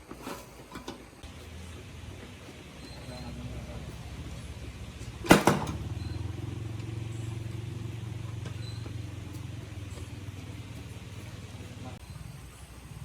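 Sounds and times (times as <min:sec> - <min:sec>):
motorbike engine idling: 0:01.2 - 0:13.0.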